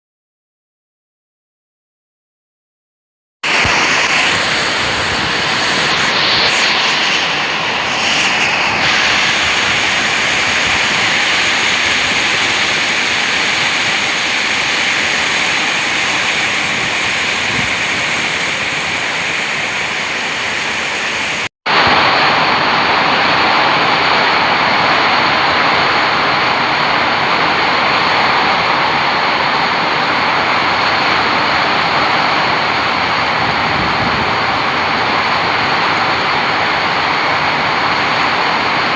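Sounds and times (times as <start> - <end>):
heavy rain in strong wind: 3.4 - 38.9.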